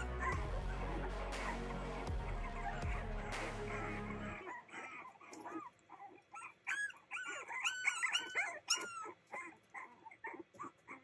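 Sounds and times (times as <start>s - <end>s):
puppies whining and yipping: 0.0s - 11.0s.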